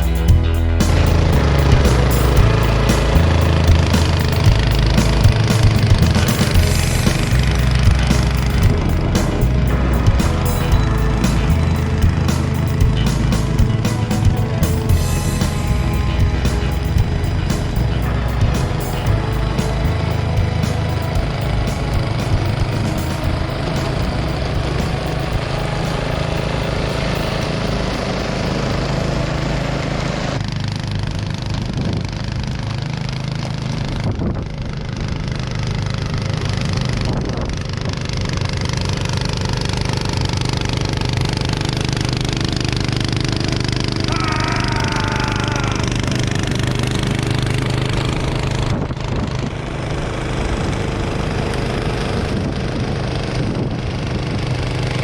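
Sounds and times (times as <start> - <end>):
snowblower engine running: 0.0 - 33.9, 34.6 - 44.1, 45.7 - 55.0.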